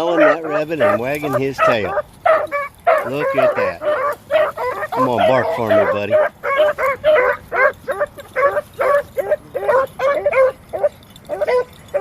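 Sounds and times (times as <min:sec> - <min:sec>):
hounds yelping: 0:00.0 - 0:12.0.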